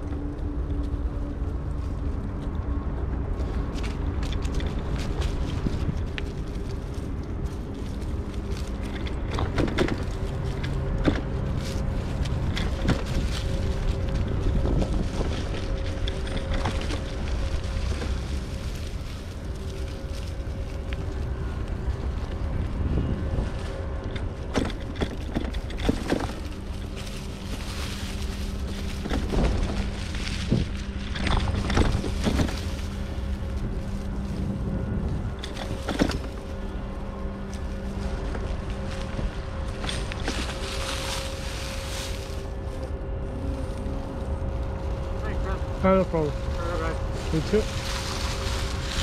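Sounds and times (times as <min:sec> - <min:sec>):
bike clicks and rattles: 0:00.0 - 0:42.3, 0:47.2 - 0:49.0
bike tyres rumbling on dirt: 0:00.0 - 0:49.0
wind on microphone: 0:00.0 - 0:49.0.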